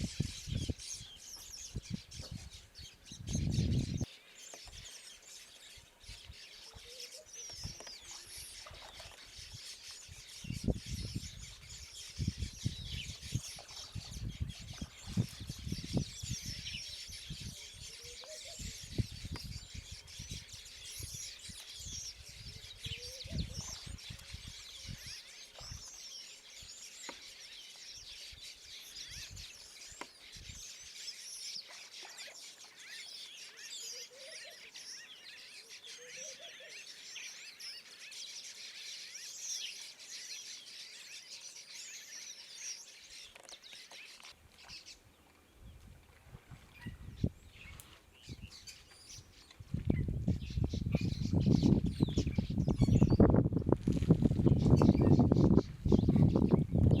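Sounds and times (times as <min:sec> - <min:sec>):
birds chirping and calling: 0:00.0 - 0:45.6, 0:46.6 - 0:57.0.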